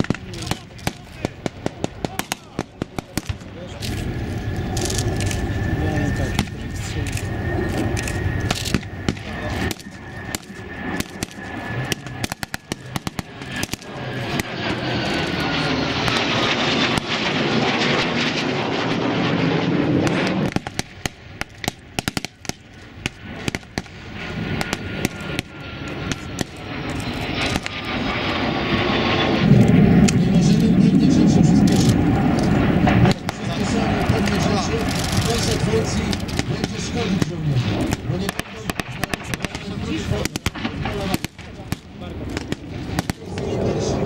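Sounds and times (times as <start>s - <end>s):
aircraft engine whine: 0.0s - 44.0s.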